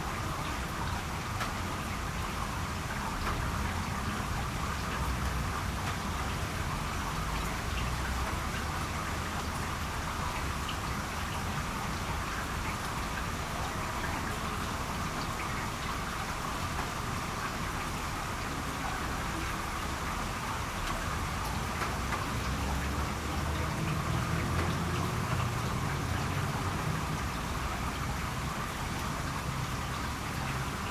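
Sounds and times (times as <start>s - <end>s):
steady rainfall: 0.0s - 30.9s.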